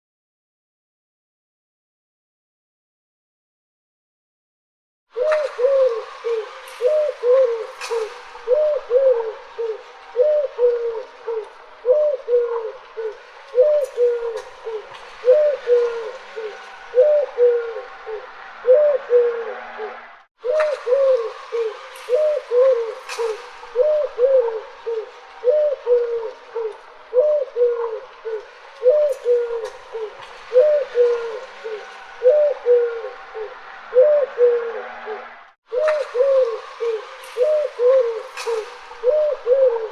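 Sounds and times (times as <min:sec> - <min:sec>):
dove cooing: 0:05.2 - 0:39.9.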